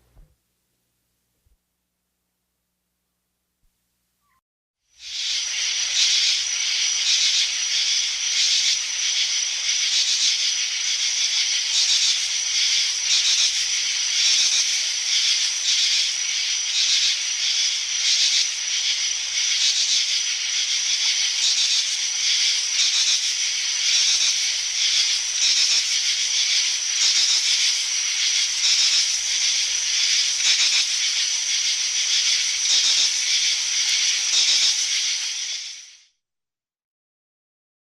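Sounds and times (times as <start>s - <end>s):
insects chirring: 5.0s - 36.0s.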